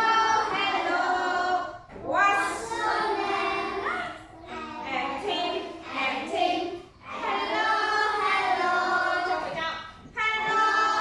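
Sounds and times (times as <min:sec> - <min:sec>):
children singing in unison: 0:00.0 - 0:09.6, 0:10.4 - 0:11.0.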